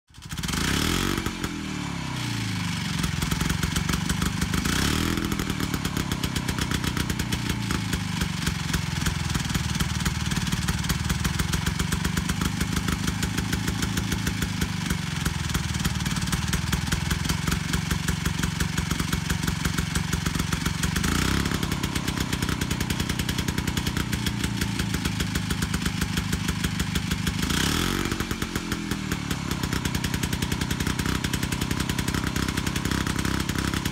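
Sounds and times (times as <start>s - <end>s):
small engine idling and revving: 0.1s - 33.9s.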